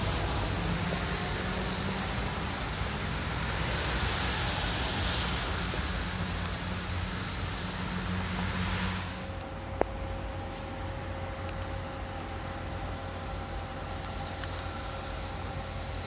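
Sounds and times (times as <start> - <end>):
tyres hissing on wet surface: 0.0 - 11.7, 12.6 - 16.0
low steady hum: 0.0 - 16.0
traffic on wet road: 0.0 - 16.0.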